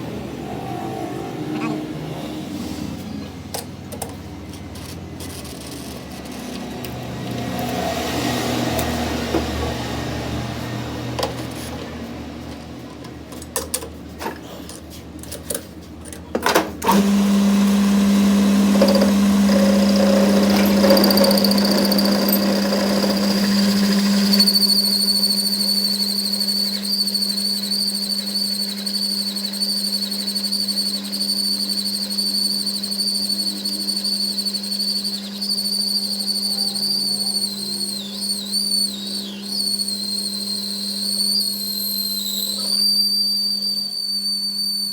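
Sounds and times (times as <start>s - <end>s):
high machine whine: 0.0s - 13.7s, 16.8s - 44.9s
workshop machine humming: 0.0s - 44.9s.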